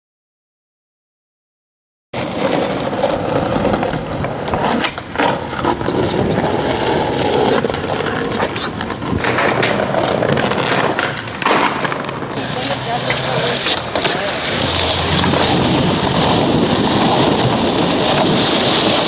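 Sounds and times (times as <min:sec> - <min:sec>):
skateboard clacks: 0:02.2 - 0:19.0
skateboard wheels rolling on concrete: 0:02.2 - 0:19.0.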